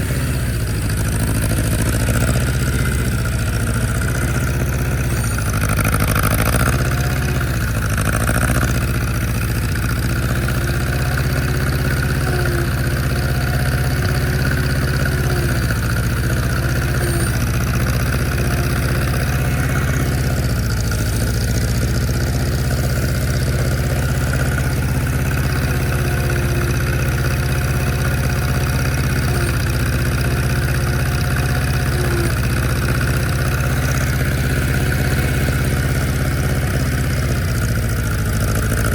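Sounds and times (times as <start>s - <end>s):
old tractor engine running: 0.0s - 38.9s.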